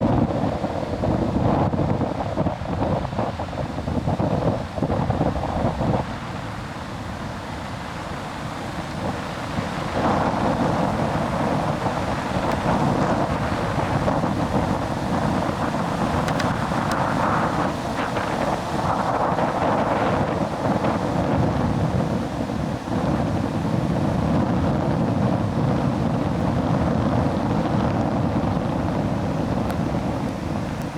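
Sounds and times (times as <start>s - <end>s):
surf washing: 0.0s - 30.9s
wind buffeting microphone: 0.0s - 30.9s.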